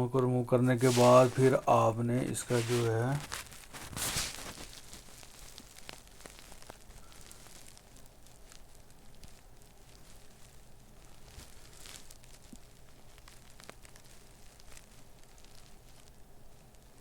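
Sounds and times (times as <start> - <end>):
hands rustling: 0.8 - 17.0.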